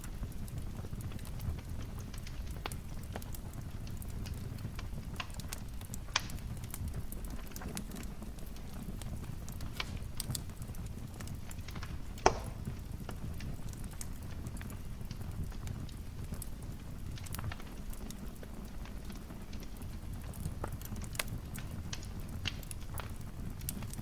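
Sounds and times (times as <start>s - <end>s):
fire pops: 0.0s - 24.0s
wood fire crackling: 0.0s - 24.0s.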